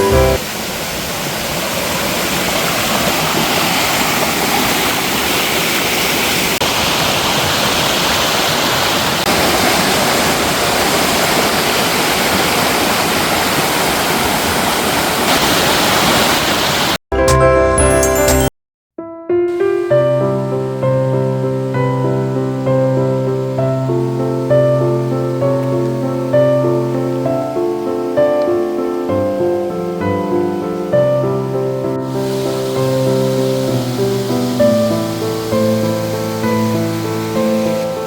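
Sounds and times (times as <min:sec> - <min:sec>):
stream rushing over rocks: 0:00.0 - 0:17.0, 0:19.6 - 0:38.0.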